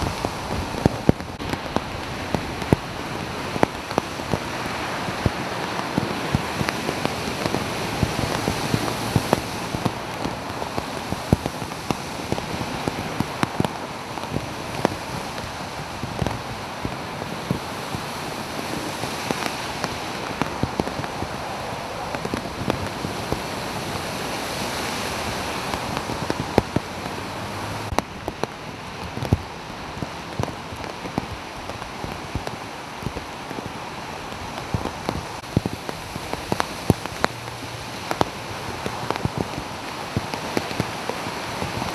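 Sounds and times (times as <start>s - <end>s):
cars driving through water: 0.0s - 41.9s
rain and floodwater rushing: 0.0s - 41.9s
raindrops ticking near microphone: 0.0s - 41.9s.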